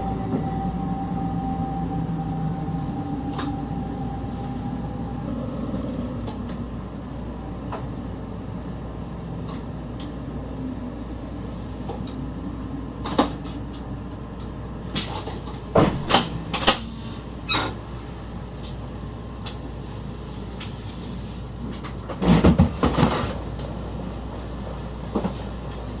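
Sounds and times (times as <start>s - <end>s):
low hum in train cab: 0.0s - 26.0s.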